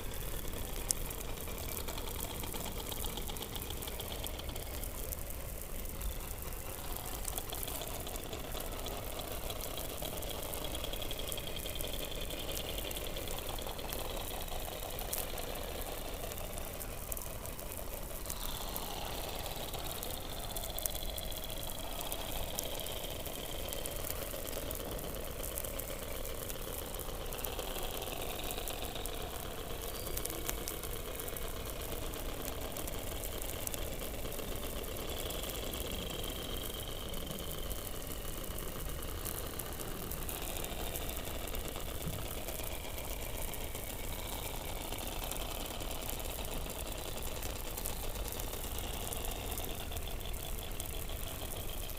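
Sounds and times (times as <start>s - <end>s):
fine crackling clicks: 0.0s - 51.9s.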